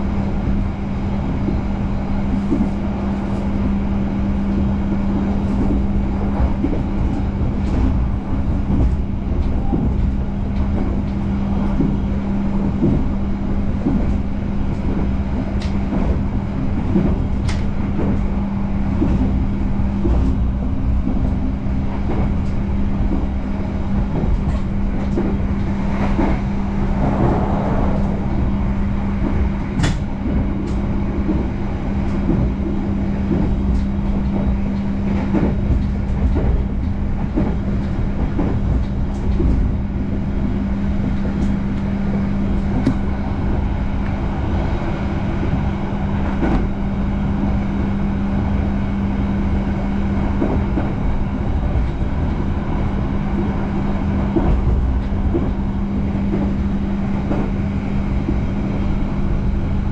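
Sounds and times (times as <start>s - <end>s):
train carriage rumble: 0.0s - 59.9s.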